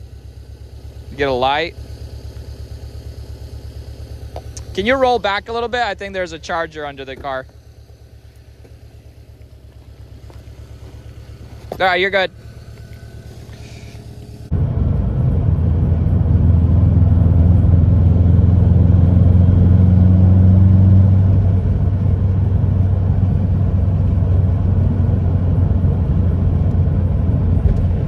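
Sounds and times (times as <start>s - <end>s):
car engine drone from inside cabin: 0.0s - 28.0s
road noise: 0.0s - 28.0s.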